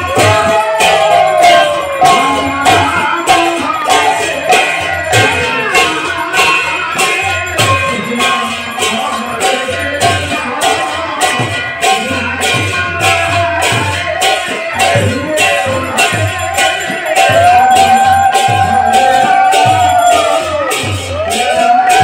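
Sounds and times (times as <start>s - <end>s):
barrel drums: 0.0s - 22.0s
person singing: 0.0s - 22.0s
small hand cymbals: 0.0s - 22.0s.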